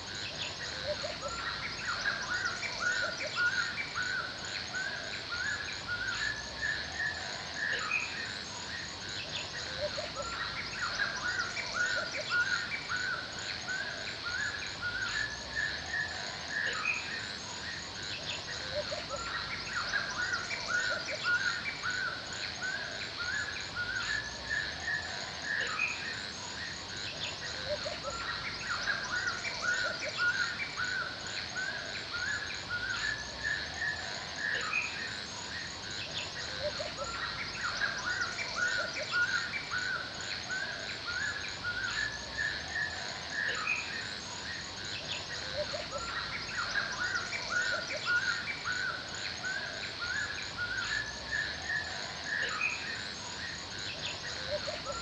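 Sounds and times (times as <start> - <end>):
birds chirping and singing: 0.0 - 55.0
steady background hiss: 0.0 - 55.0.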